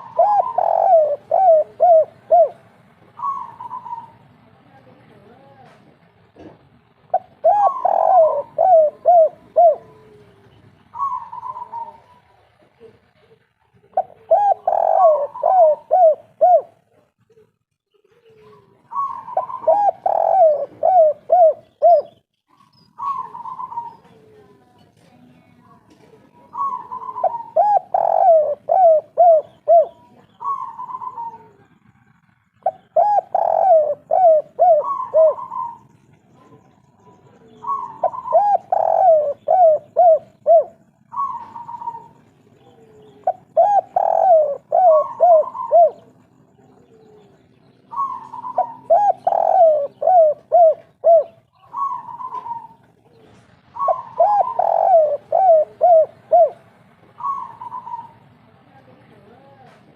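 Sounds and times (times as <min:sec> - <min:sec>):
dove cooing: 0:00.0 - 0:05.5, 0:06.4 - 0:24.8, 0:25.6 - 0:59.7.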